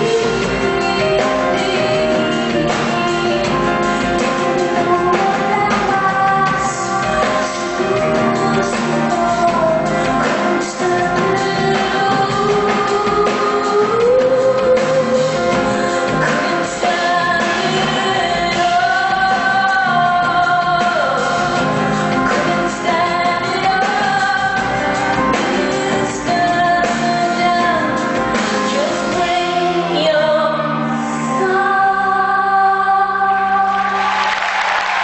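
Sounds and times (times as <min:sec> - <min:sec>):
woman singing with band: 0:00.0 - 0:34.1.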